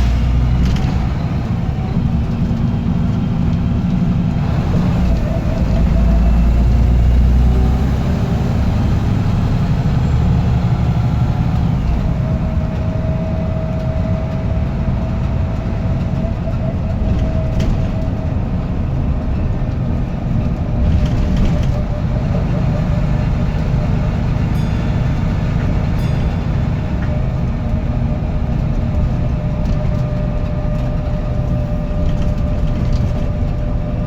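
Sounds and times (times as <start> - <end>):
diesel bus engine rumble: 0.0 - 34.0.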